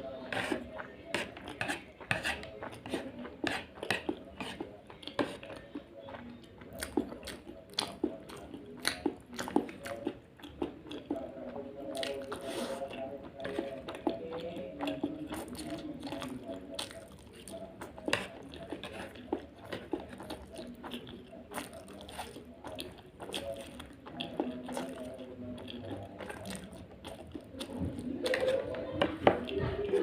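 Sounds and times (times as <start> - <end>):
person chewing: 0.3 - 30.0.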